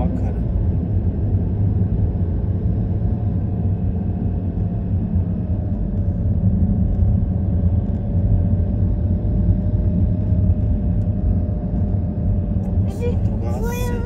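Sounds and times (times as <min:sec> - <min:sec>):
engine and tyre rumble: 0:00.0 - 0:14.0.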